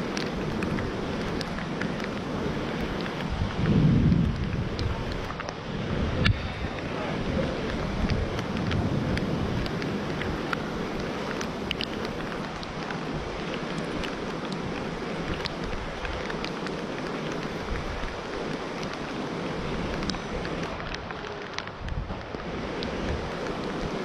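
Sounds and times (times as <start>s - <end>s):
rain and wind rushing: 0.0s - 24.0s
raindrops ticking on surfaces: 0.0s - 24.0s.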